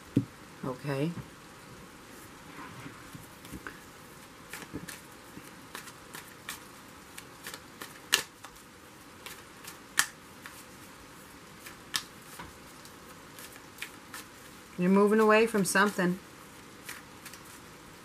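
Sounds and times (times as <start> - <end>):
soft hiss: 0.0 - 18.0.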